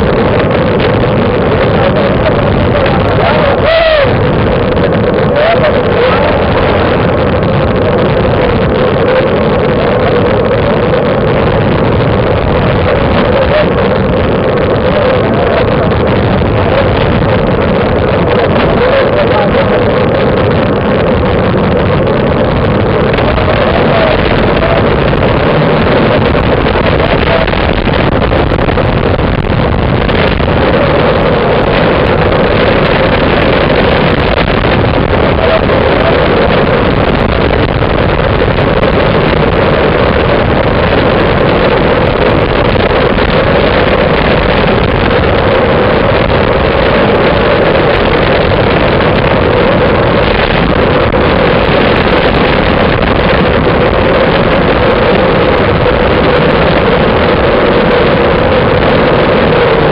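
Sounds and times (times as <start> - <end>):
steady drone: 0.0 - 59.9
tyre road noise: 0.0 - 59.9
wind on microphone: 0.0 - 59.9.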